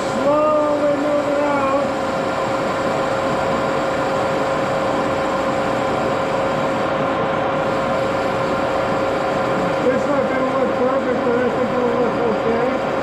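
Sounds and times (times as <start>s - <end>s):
lathe running with whine: 0.0s - 13.0s.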